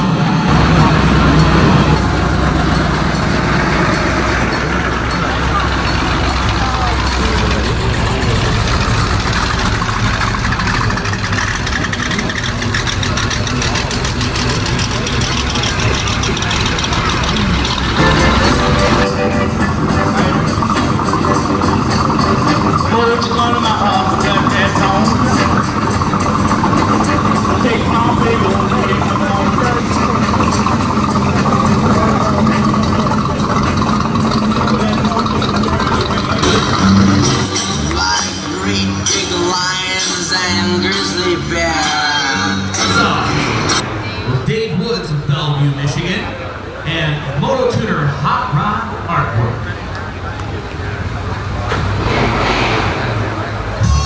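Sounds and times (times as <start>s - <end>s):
vehicle engines idling: 0.0s - 54.0s.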